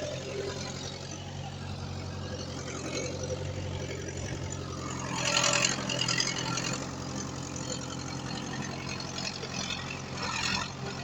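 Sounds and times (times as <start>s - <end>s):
heavy diesel engine running: 0.0s - 11.0s
noisy mechanical sound: 0.0s - 11.0s.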